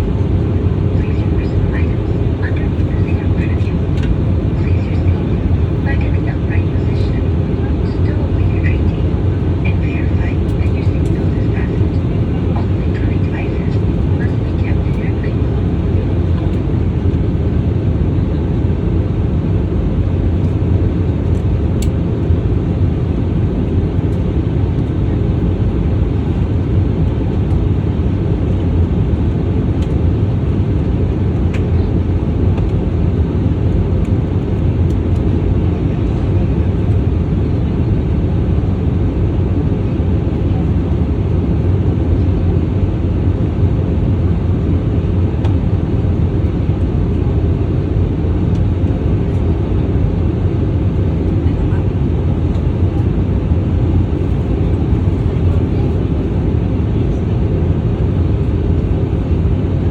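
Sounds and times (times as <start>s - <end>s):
airliner engines droning: 0.0s - 59.9s.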